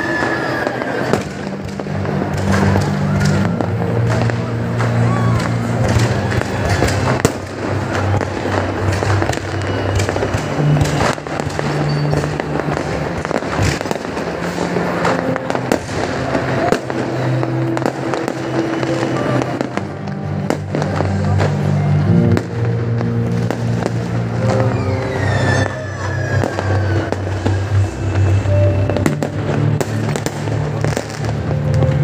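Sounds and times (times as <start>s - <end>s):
fireworks bangs and pops: 0.0s - 32.0s
loud music with low notes: 1.1s - 32.0s.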